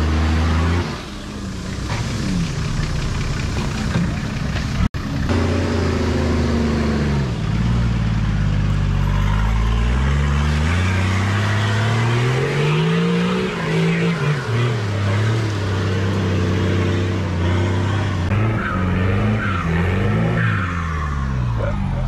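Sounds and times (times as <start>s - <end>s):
engine revving under load: 0.0s - 2.6s, 5.2s - 22.0s.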